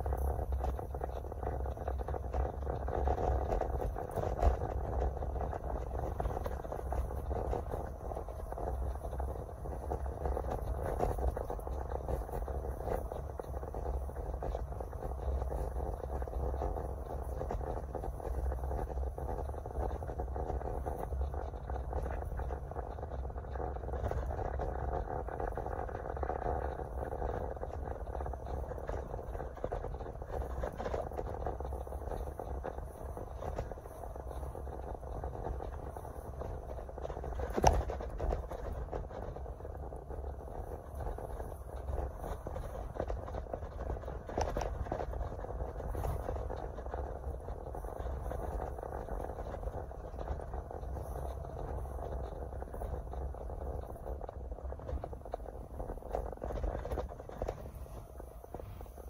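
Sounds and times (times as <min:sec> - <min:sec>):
car cabin road and engine noise: 0:00.0 - 0:59.0.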